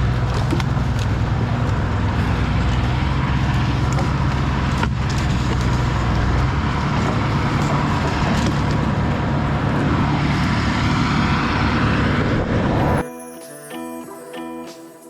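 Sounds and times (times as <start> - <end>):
wood chipper engine running: 0.0 - 13.0.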